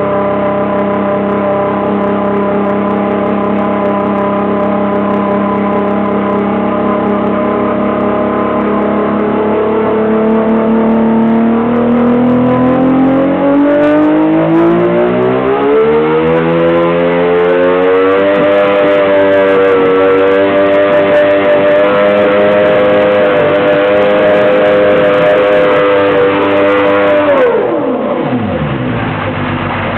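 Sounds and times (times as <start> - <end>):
outboard engine running under load: 0.0 - 29.9.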